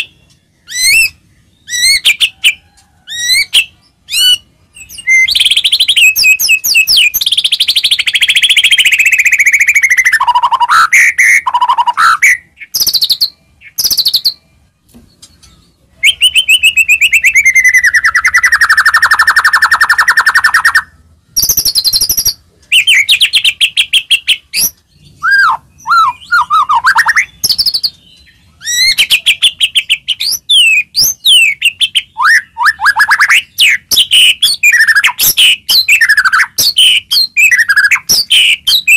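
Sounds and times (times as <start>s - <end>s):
songbird rattling trills and whistles: 0.0s - 14.4s, 15.1s - 38.9s.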